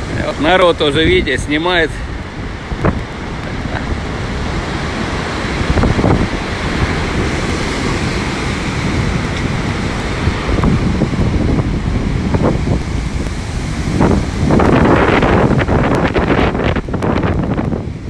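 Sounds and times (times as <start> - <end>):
wind buffeting microphone: 0.0 - 18.0
waves breaking on pebbles: 2.8 - 17.3.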